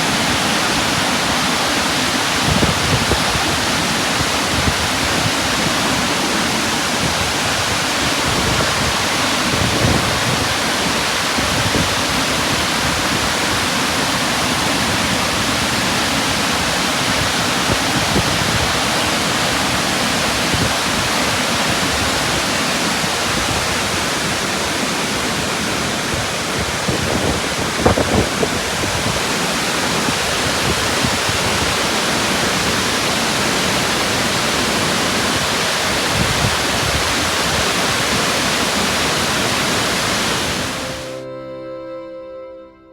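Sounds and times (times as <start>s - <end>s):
waterfall roaring: 0.0s - 41.2s.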